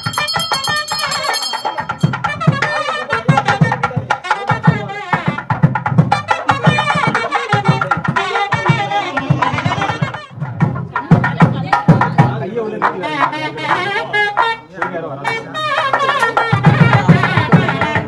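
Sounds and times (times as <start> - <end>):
music with busy drum beat: 0.0 - 18.0.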